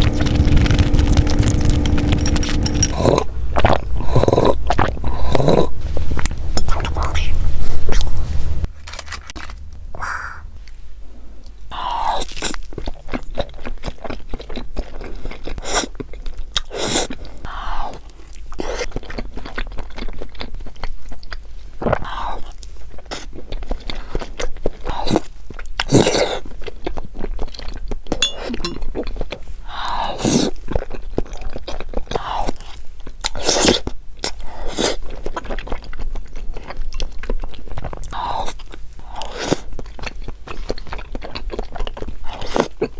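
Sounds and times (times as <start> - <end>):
person chewing crunchy food: 0.0 - 6.8, 11.4 - 42.9.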